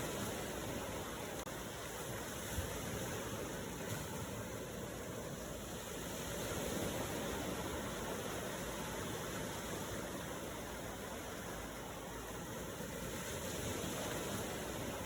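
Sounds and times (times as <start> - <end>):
ocean waves surf: 0.0 - 15.0.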